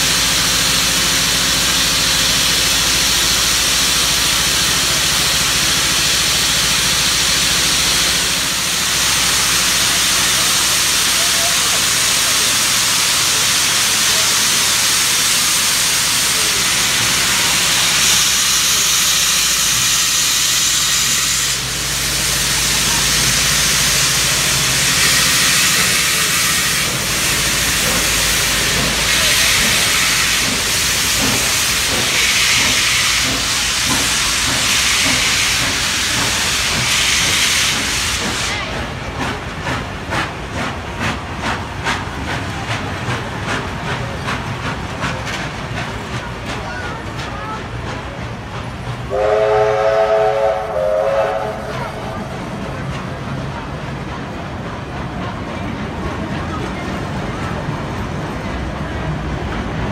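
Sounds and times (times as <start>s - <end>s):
steam locomotive chuffing: 0.0s - 59.9s
steam locomotive hissing: 0.0s - 59.9s.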